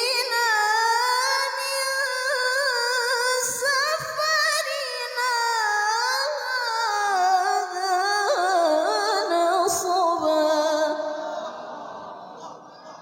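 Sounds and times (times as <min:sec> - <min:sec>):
woman chanting melodically: 0:00.0 - 0:12.2.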